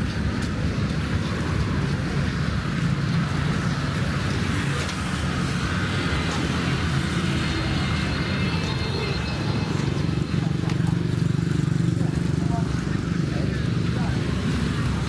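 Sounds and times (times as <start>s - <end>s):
road traffic drone: 0.0s - 15.0s.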